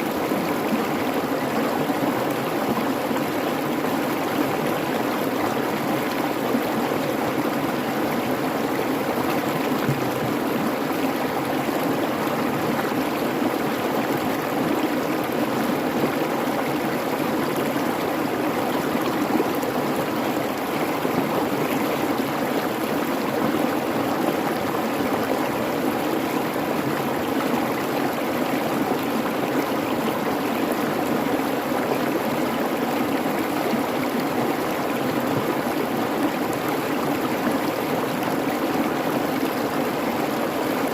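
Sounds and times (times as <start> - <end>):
creek babbling over stones: 0.0 - 40.9.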